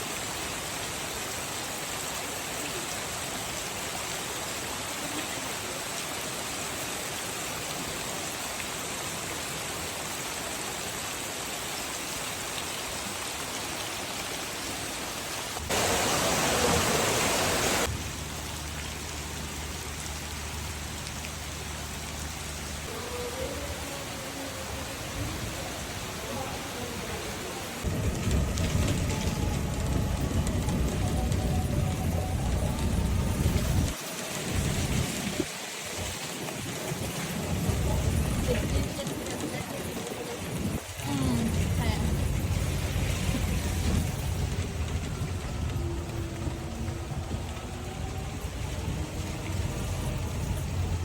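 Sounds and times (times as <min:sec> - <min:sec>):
rain falling: 0:00.0 - 0:51.0.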